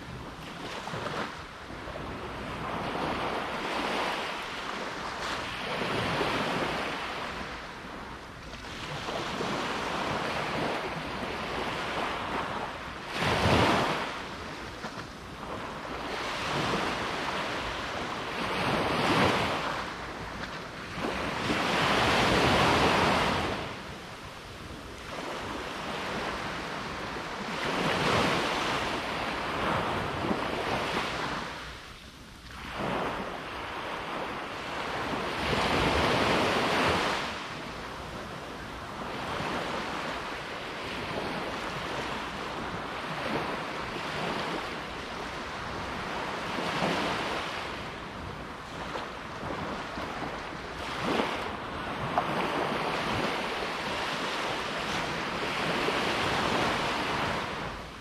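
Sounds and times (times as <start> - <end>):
sea waves washing onto beach: 0.0 - 58.0.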